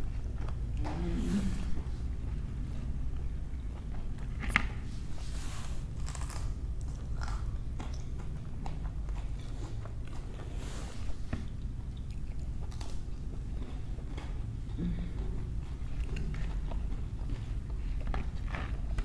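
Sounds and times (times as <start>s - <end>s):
chewing and crunching food: 0.0s - 1.0s, 1.6s - 19.0s.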